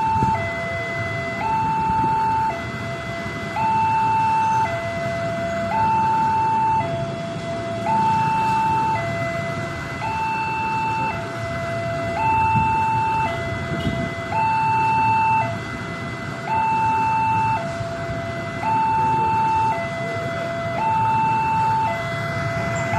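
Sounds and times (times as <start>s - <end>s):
two-tone crossing alarm: 0.0s - 22.9s.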